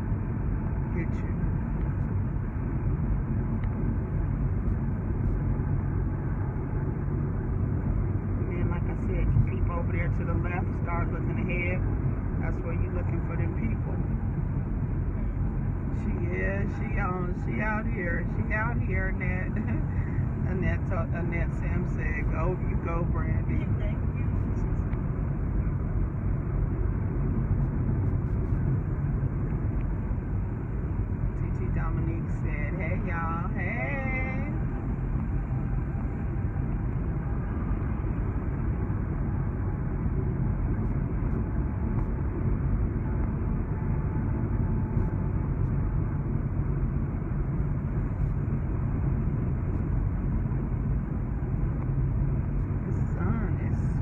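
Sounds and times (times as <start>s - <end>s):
road and tyre noise in car: 0.0s - 54.0s.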